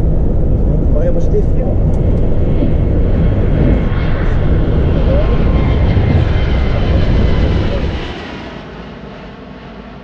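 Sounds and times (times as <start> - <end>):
jet engine whining tones: 0.0 - 10.0
jet engines deep rumble: 0.0 - 10.0.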